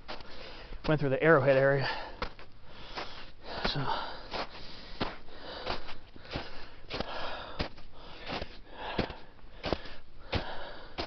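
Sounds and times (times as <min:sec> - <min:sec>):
footsteps on trail: 0:00.0 - 0:11.0
heavy breathing: 0:00.2 - 0:00.8, 0:01.8 - 0:11.0.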